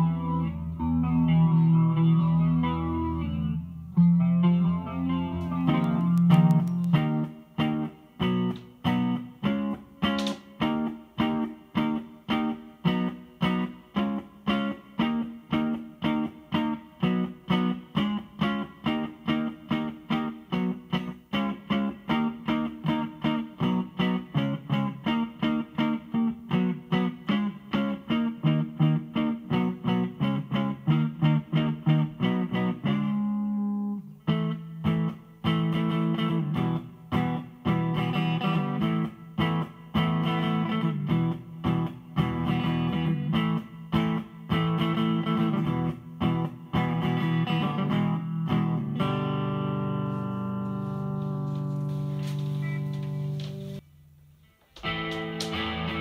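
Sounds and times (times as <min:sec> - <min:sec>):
electric guitar chords ringing: 0:00.0 - 0:53.8, 0:54.4 - 0:56.0
electric guitar picked notes: 0:00.0 - 0:53.8, 0:54.4 - 0:56.0.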